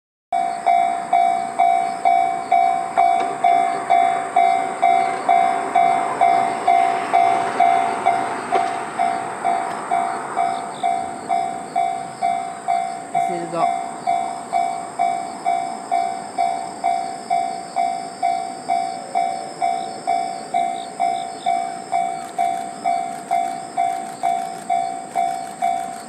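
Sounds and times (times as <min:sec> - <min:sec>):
level crossing bell ringing: 0:00.4 - 0:08.4, 0:09.0 - 0:26.0.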